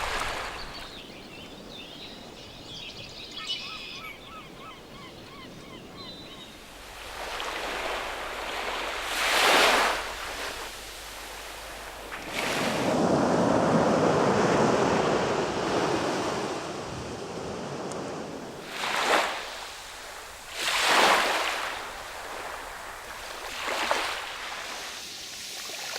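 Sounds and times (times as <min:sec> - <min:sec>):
sea waves breaking on shore: 0:00.0 - 0:01.6, 0:04.6 - 0:25.9.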